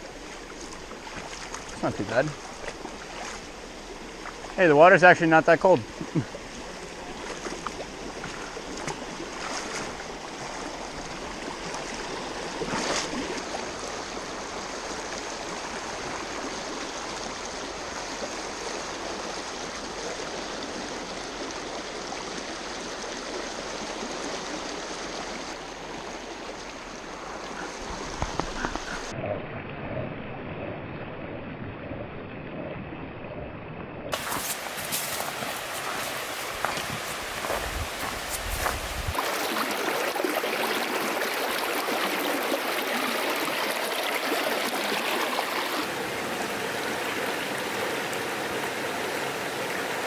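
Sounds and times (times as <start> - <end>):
stream water flowing over rocks: 0.0 - 29.2, 33.5 - 50.0.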